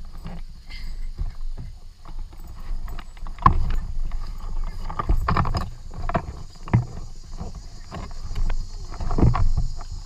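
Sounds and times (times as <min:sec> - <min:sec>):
knocks and scraping on kayak hull: 0:00.0 - 0:10.0.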